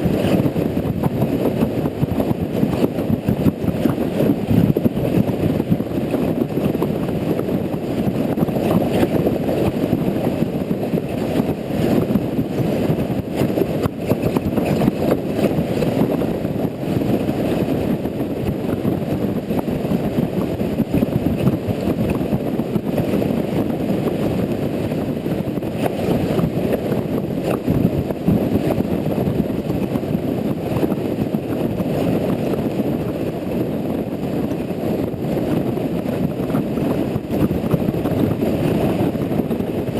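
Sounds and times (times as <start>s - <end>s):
motorcycle road noise: 0.0s - 39.9s
wind rushing: 0.0s - 39.9s.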